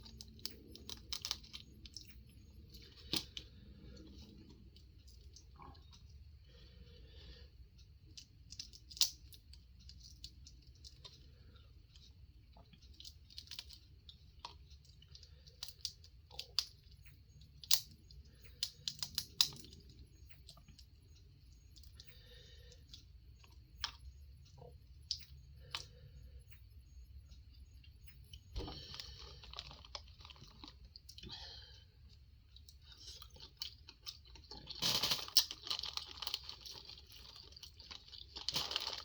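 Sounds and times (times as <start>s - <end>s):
seafood cracking and clicking: 0.0s - 6.6s, 7.8s - 39.0s.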